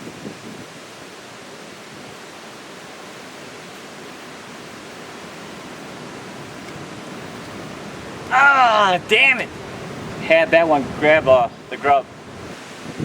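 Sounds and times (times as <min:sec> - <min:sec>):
river water rushing over dam: 0:00.0 - 0:13.0.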